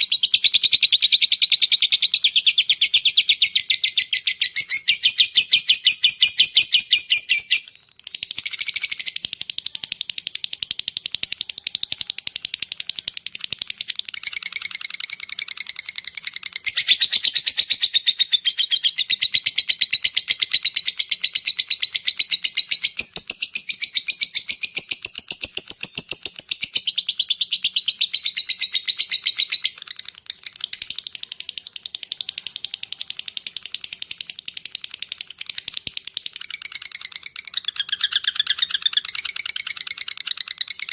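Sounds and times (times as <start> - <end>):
lovebird chattering call: 0.0 - 40.9.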